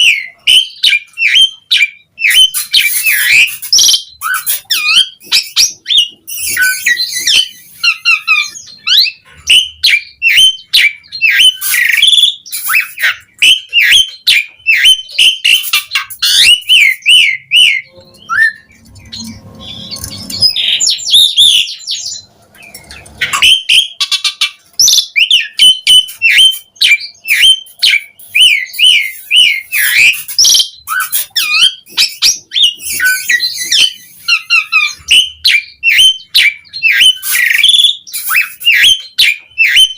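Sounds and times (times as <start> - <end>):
starling whistles chirps and squawks: 0.0 - 39.9.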